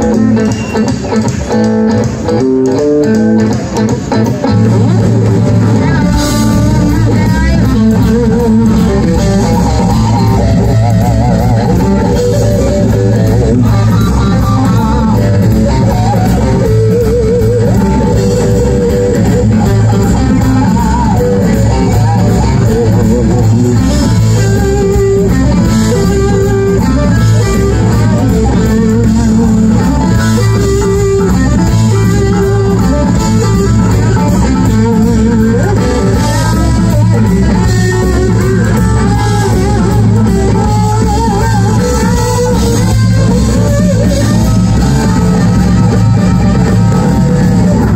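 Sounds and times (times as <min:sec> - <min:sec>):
lead guitar with bends: 0:00.0 - 0:47.9
live rock band playing: 0:00.0 - 0:47.9.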